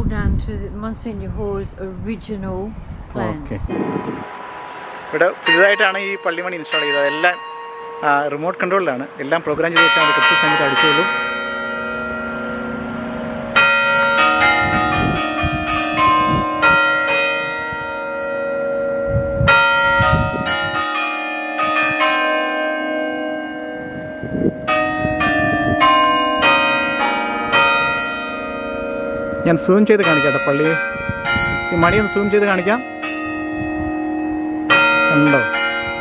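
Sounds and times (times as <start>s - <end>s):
church bells ringing: 3.7s - 36.0s.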